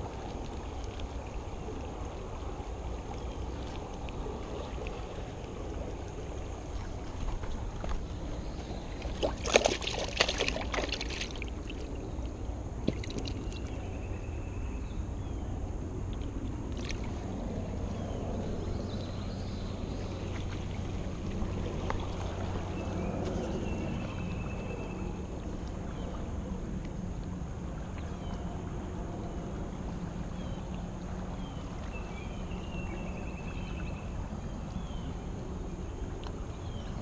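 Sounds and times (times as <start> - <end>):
creek water rushing: 0.0 - 14.0, 15.9 - 32.9.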